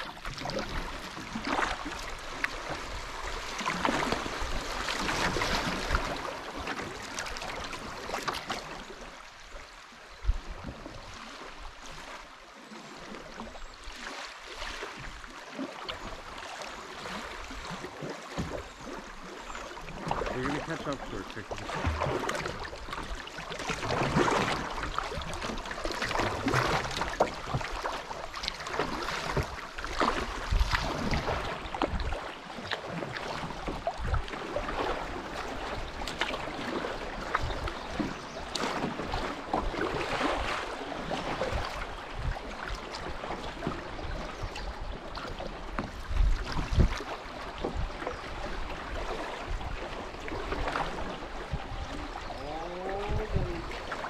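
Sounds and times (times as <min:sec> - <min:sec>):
river water rushing and splashing: 0:00.0 - 0:54.0.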